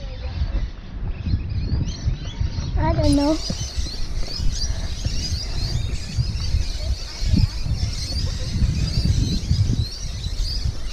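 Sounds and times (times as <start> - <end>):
small birds chirping: 0.0 - 10.9
wind buffeting microphone: 0.0 - 10.9.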